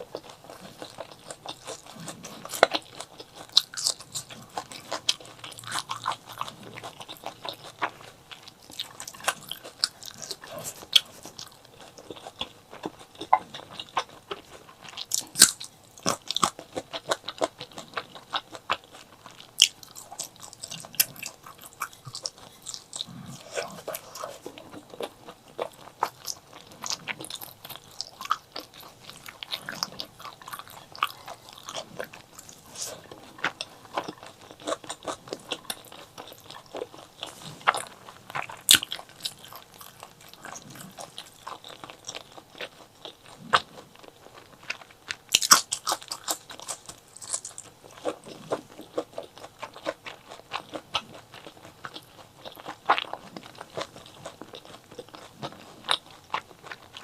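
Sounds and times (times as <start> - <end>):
wet chewing and crunching: 0.0 - 57.0.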